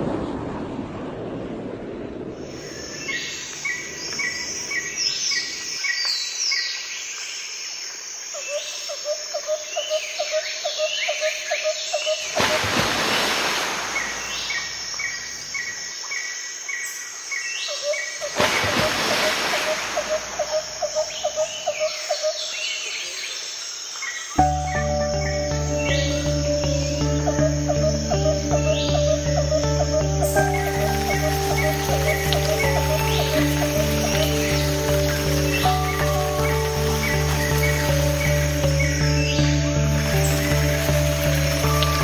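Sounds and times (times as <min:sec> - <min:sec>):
insects chirping in trills: 0:02.4 - 0:42.0
birds calling: 0:08.4 - 0:42.0.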